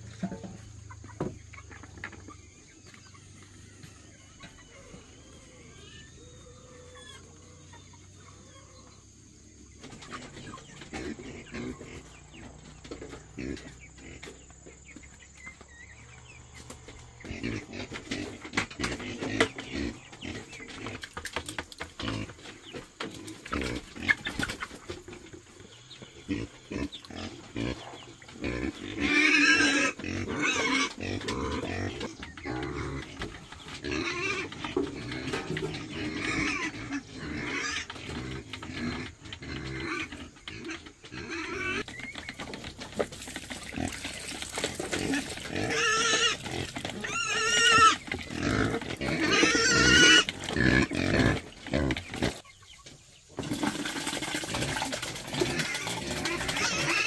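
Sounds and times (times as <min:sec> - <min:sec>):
pigs grunting and squealing: 0:02.2 - 0:52.4, 0:53.4 - 0:57.0.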